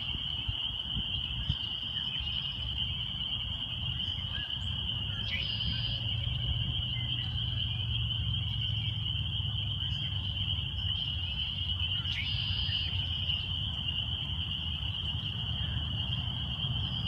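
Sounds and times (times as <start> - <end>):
frogs peeping: 0.0 - 17.0.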